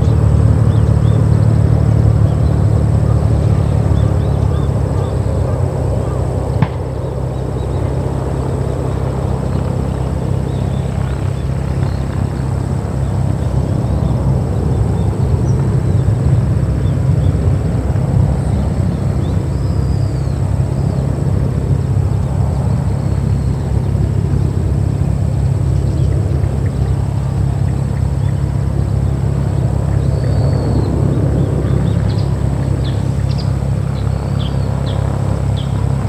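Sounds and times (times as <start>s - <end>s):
aircraft engine drone: 0.0s - 36.0s.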